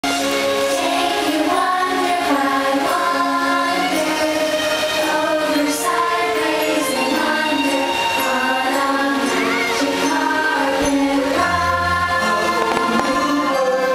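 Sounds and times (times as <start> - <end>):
choir singing long notes: 0.1 - 13.9.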